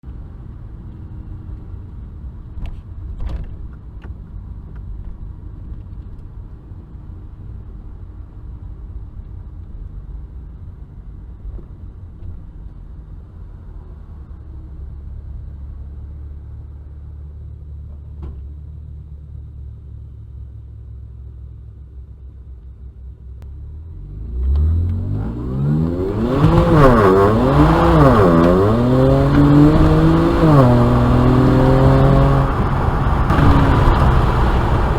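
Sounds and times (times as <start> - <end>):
car engine rumbling and accelerating: 0.0 - 34.9.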